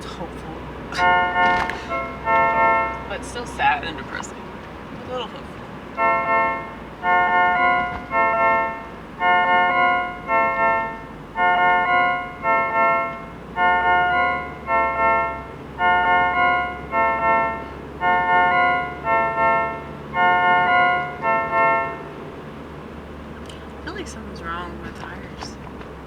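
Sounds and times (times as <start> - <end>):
electronic keyboard organ chords: 0.0 - 23.8.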